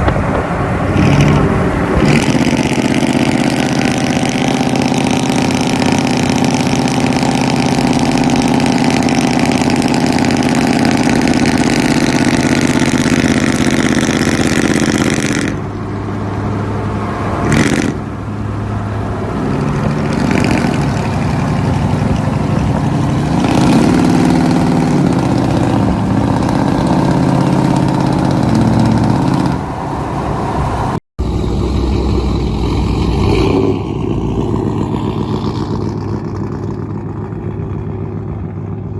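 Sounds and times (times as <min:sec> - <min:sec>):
engine revving: 0:00.0 - 0:38.5
loud truck exhaust drone: 0:00.0 - 0:38.9.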